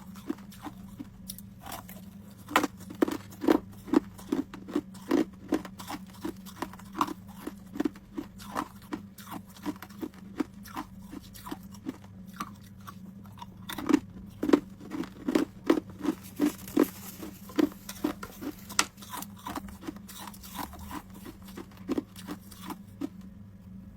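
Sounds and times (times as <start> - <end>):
ice cubes being chewed: 0.0 - 23.3
faint low hum: 0.0 - 23.9.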